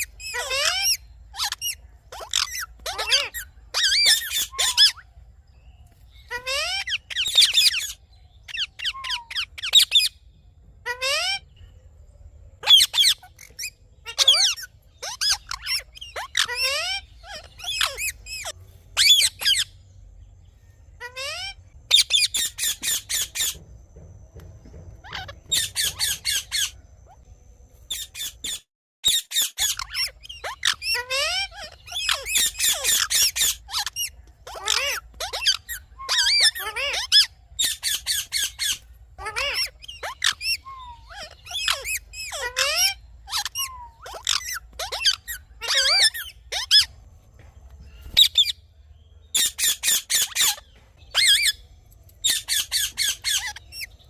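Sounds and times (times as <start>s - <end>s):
parrot squawking: 0.0s - 5.0s, 6.2s - 10.2s, 10.8s - 11.5s, 12.6s - 19.7s, 21.0s - 23.6s, 27.9s - 46.9s, 48.0s - 48.6s, 49.3s - 54.0s.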